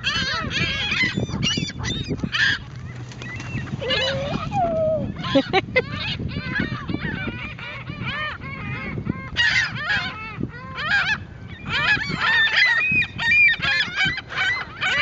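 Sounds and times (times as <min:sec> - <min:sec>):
seagulls squawking: 0:00.0 - 0:15.0.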